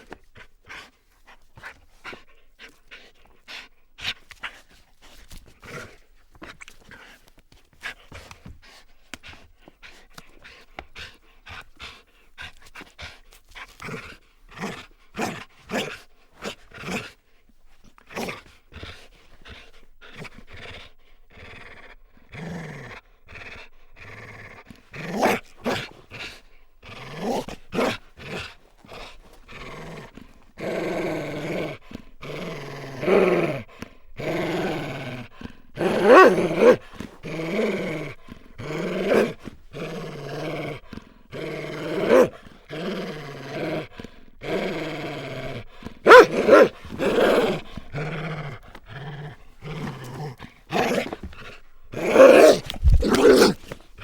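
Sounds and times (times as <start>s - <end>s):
dog panting: 0.0s - 40.2s, 40.8s - 54.0s
dog growling: 7.8s - 54.0s.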